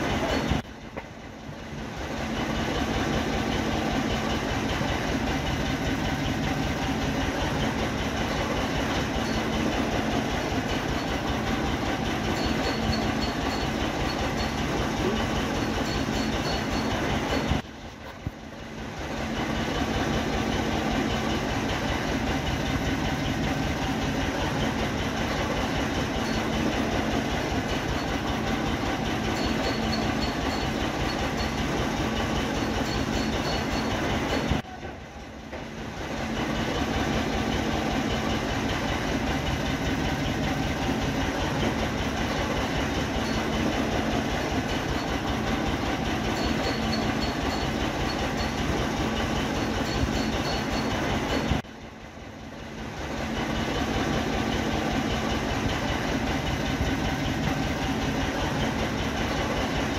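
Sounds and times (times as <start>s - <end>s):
machine rattling and humming: 0.0s - 59.9s.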